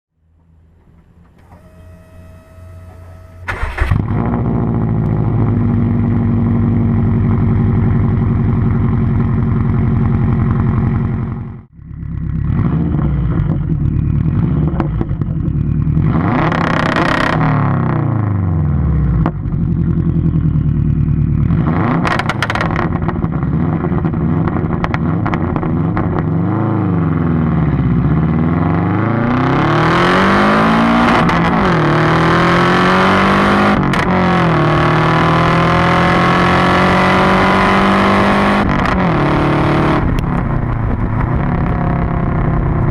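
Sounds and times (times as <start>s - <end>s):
car engine accelerating: 0.2s - 42.9s.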